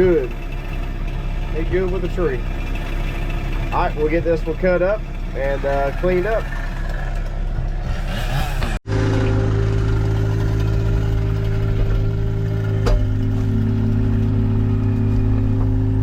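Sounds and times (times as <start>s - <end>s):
small engine running: 0.0s - 16.0s
steady whine: 0.0s - 16.0s.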